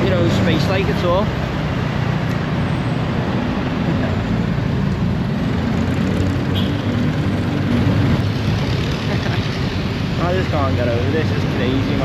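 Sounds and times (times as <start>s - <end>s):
surrounding traffic: 0.0s - 12.0s.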